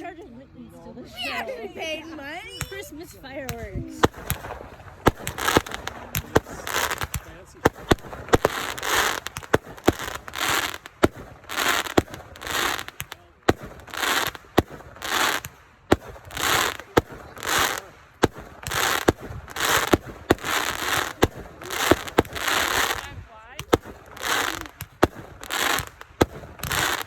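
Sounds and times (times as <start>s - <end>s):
fireworks popping and crackling: 2.5s - 27.0s.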